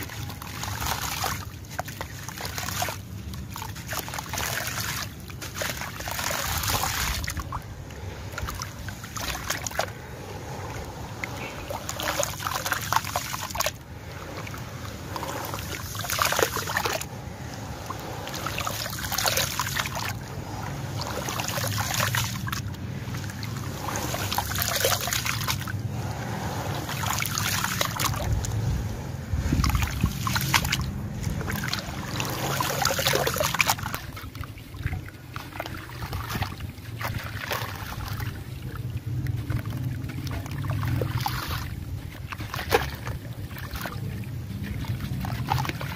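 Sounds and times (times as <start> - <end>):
water trickling and splashing: 0.0 - 45.9.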